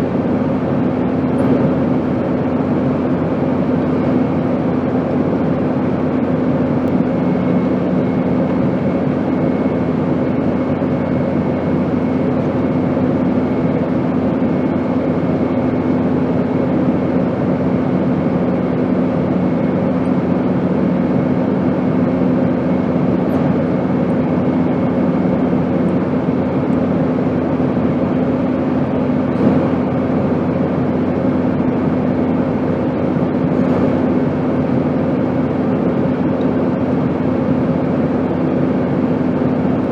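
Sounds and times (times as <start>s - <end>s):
airplane engine noise: 0.0s - 39.9s
low hum: 0.0s - 39.9s.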